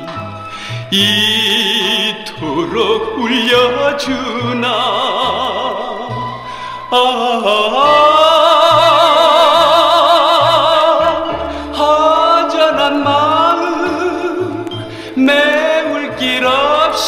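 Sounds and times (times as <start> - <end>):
man singing with vibrato: 0.0 - 17.0.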